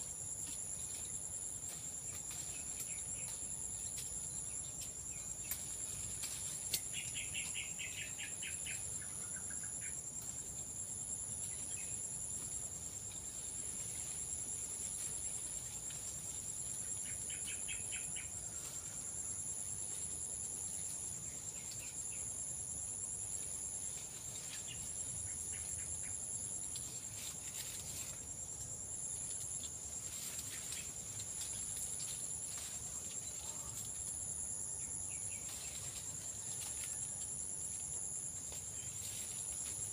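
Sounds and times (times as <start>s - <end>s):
insect high continuous trill: 0.0s - 39.9s
insect pulsing trill: 0.0s - 39.9s.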